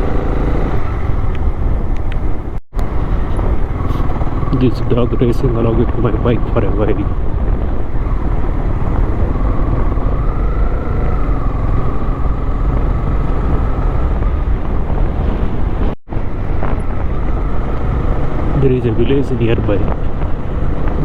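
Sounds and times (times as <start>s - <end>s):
motorcycle engine drone: 0.0s - 21.0s.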